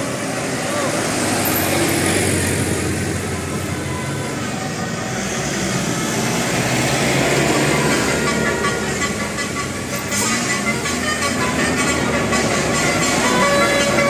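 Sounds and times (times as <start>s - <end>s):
bus engine hum: 0.0s - 14.0s
road noise: 0.0s - 14.0s.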